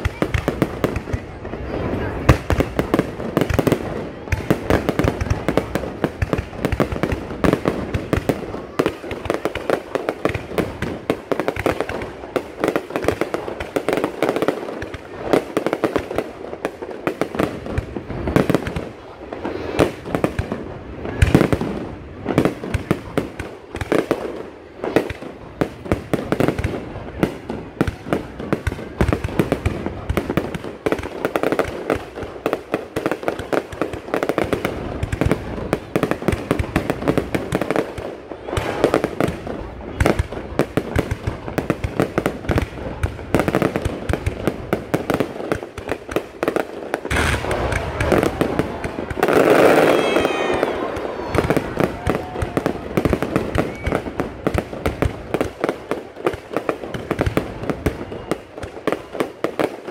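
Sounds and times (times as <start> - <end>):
fireworks bangs and pops: 0.0 - 59.9
loud fireworks booms: 0.0 - 59.9.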